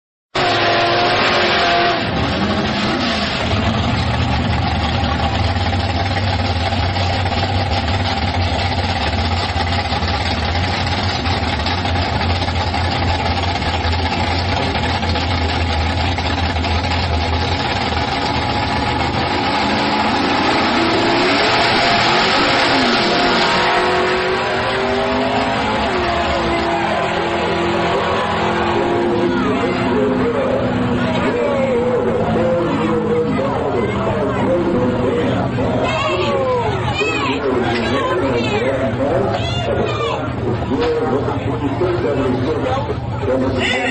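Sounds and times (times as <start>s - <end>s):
racing car engines at full throttle: 0.3s - 43.9s.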